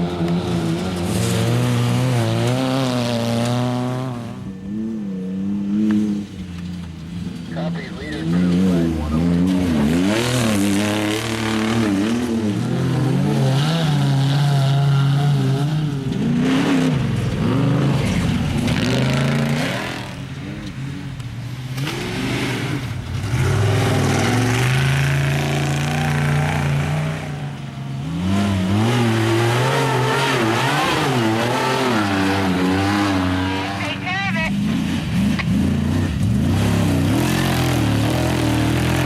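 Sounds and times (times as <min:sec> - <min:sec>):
race vehicles passing at speed: 0:00.0 - 0:39.0.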